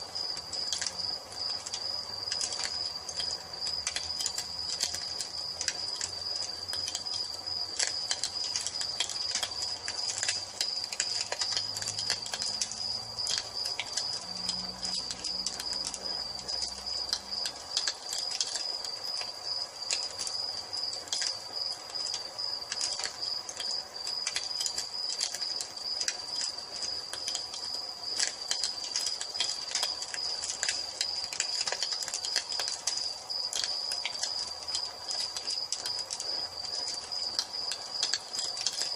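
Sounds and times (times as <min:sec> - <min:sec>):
crickets chirring: 0:00.0 - 0:38.9
wood fire crackling: 0:00.0 - 0:38.9.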